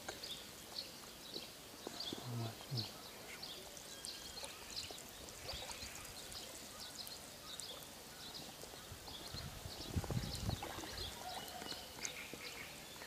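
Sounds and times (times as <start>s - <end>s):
small birds chirping: 0.0s - 13.0s
soft outdoor hiss: 0.0s - 13.0s.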